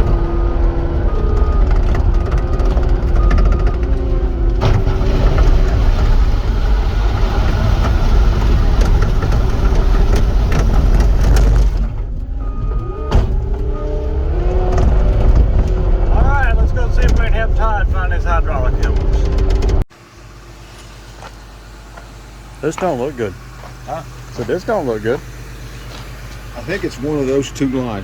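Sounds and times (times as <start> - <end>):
diesel engine running: 0.0 - 28.0
engine whine: 0.0 - 28.0.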